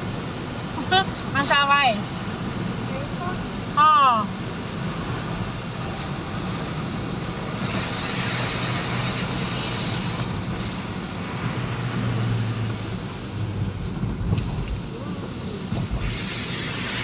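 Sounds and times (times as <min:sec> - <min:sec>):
road noise: 0:00.0 - 0:17.0
rushing hiss: 0:00.0 - 0:17.0
vehicle engine running: 0:00.0 - 0:17.0.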